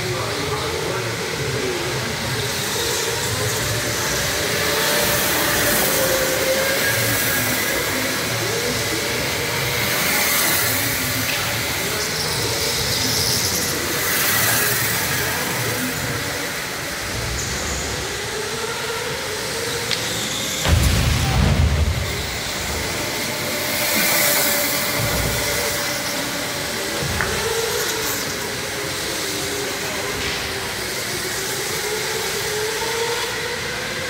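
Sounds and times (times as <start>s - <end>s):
go-kart motors racing: 0.0s - 34.0s.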